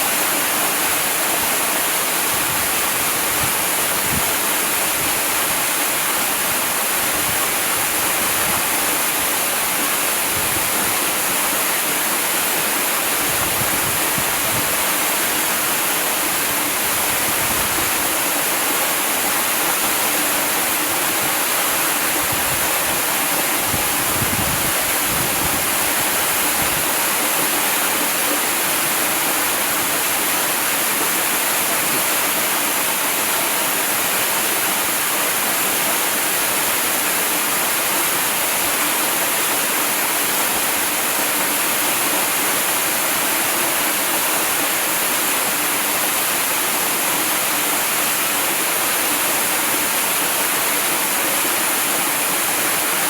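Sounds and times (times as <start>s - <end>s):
waterfall splashing: 0.0s - 53.0s.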